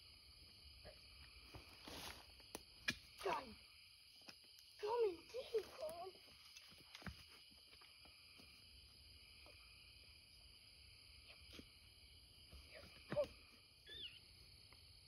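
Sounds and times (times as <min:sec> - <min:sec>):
crickets and katydids trilling: 0:00.0 - 0:15.0.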